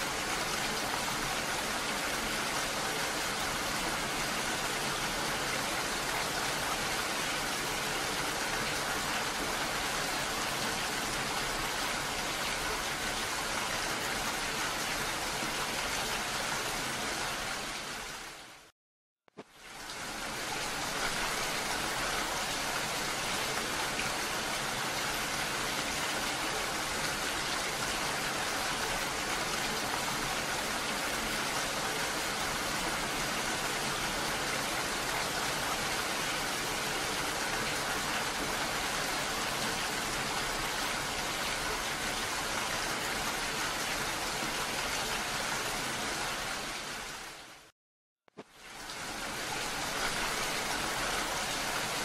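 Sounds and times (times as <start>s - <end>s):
heavy rain falling: 0.0s - 18.6s, 19.6s - 47.6s, 48.4s - 52.0s.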